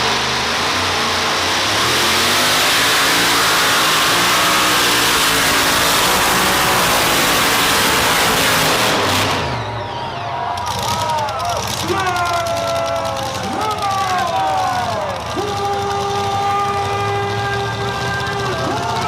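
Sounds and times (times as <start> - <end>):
tractor engine at full throttle: 0.0 - 19.0.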